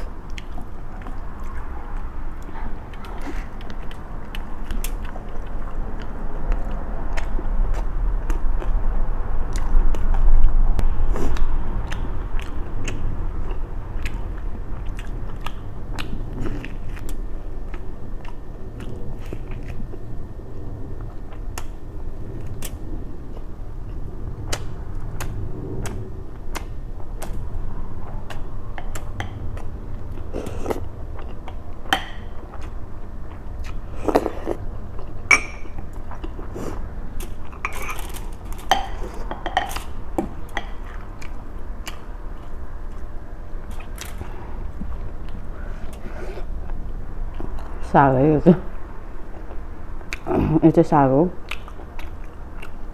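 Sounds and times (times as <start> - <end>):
chewing and biting food: 0.0 - 47.8, 51.4 - 52.9.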